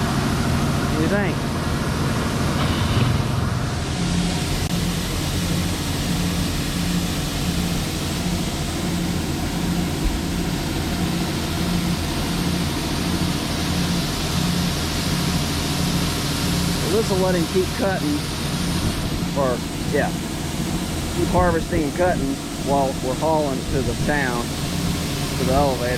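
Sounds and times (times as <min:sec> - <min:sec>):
diesel farm machinery running: 0:00.0 - 0:25.9.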